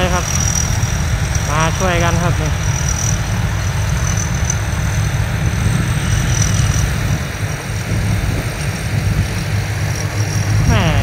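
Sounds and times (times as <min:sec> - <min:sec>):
harvester engine rumbling: 0:00.0 - 0:11.0
rushing noise: 0:00.0 - 0:11.0.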